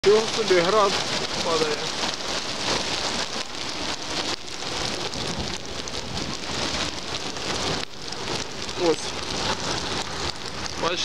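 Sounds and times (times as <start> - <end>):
heavy rain and hail on sand: 0.0 - 11.0.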